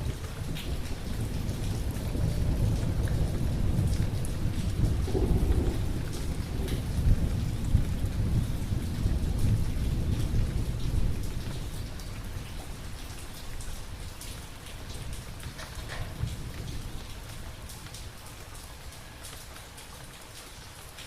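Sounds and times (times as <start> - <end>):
thunder rumble: 0.0 - 17.6
rain drops hitting close by: 0.0 - 21.0.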